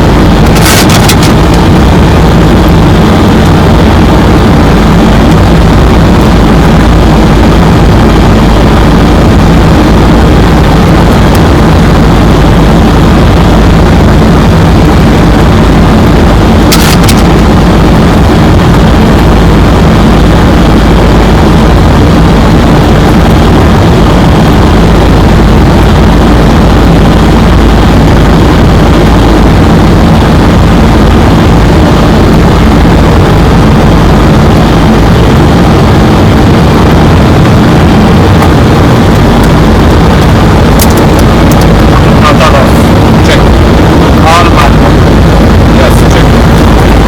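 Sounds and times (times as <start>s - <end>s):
airliner cockpit rumble and rushing air: 0.0s - 47.0s.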